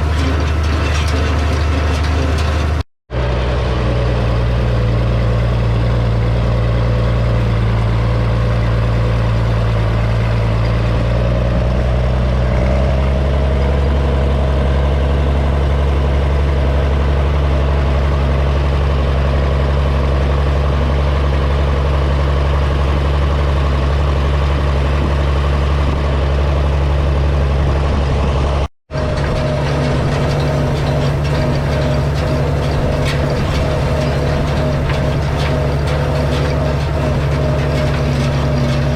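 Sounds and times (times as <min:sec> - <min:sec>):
tractor engine drone: 0:00.0 - 0:38.9.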